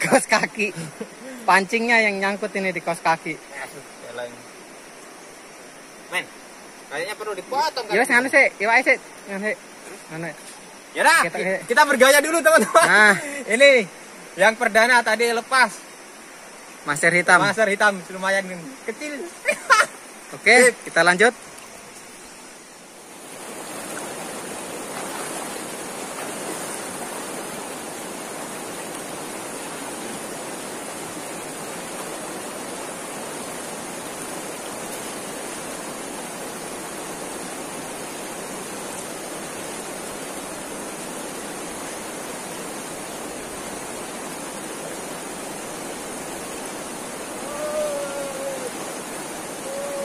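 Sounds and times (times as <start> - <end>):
river flowing over stones: 0.0 - 50.0.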